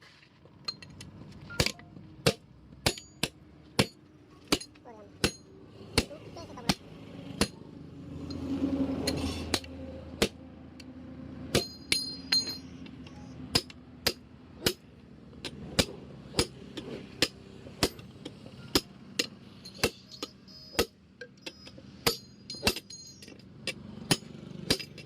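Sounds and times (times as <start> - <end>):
hammer striking metal: 1.5 - 7.6, 8.3 - 10.4, 11.5 - 12.8, 13.5 - 25.0.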